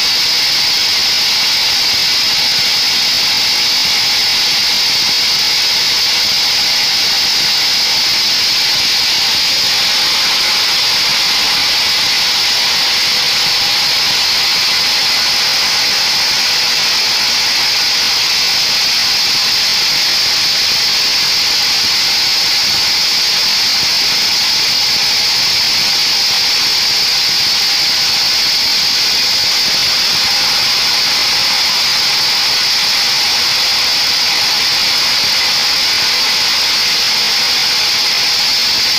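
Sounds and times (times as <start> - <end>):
band saw whining through wood: 0.0 - 38.9.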